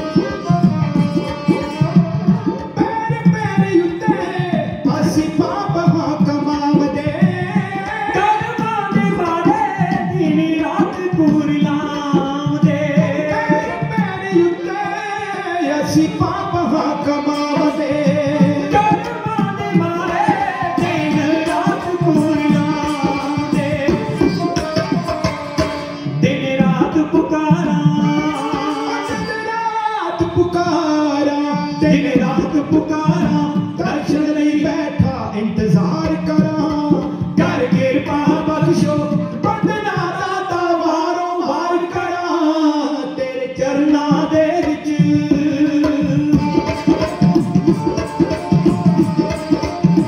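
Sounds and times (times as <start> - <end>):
hand drums: 0.0 - 42.2, 43.5 - 50.0
bowed string instrument: 0.0 - 42.3, 42.9 - 50.0
men singing devotional song: 2.8 - 24.9, 26.2 - 49.6.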